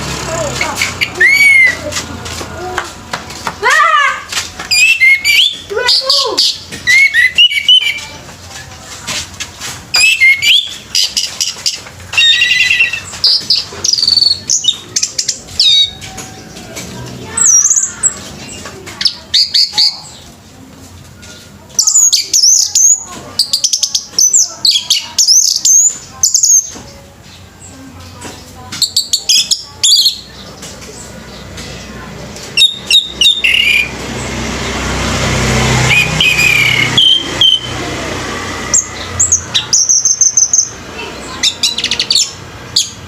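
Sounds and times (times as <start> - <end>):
thrushes singing: 0.0 - 43.0.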